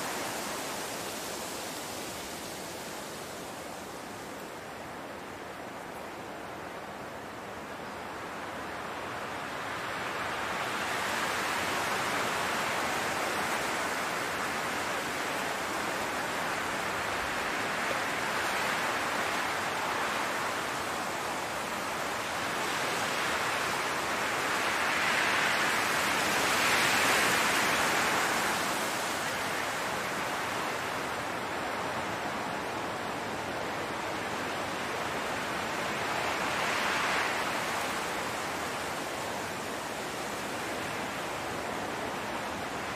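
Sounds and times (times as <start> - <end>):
wind rushing through grass: 0.0 - 42.9.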